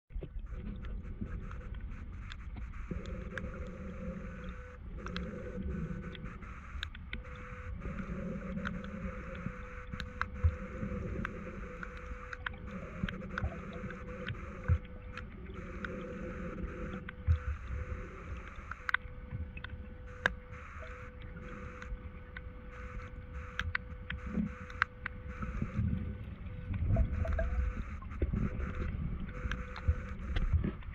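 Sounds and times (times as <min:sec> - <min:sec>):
faint steady tone: 0:00.1 - 0:30.9
underwater flowing water: 0:00.1 - 0:30.9
sharp underwater clicks: 0:00.3 - 0:26.0, 0:26.7 - 0:30.9.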